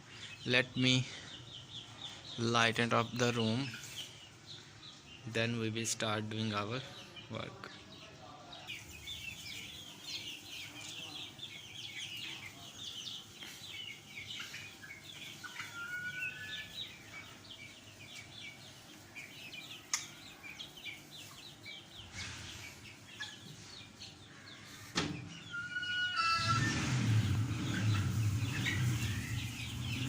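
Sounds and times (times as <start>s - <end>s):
chickens chirping and clucking: 0.0s - 30.0s.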